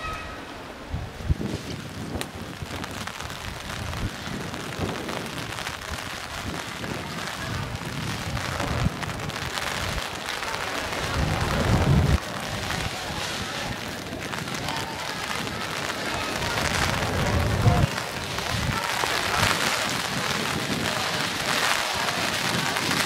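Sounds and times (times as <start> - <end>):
rain pattering on cobblestones: 1.2 - 23.0.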